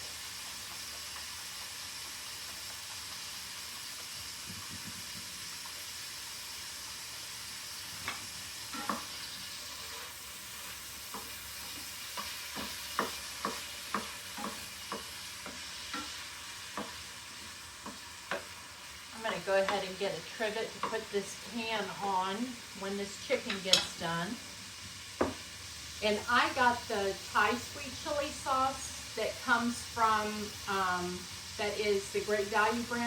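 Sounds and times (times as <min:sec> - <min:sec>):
chicken sizzling in frying pan: 0:00.0 - 0:33.0.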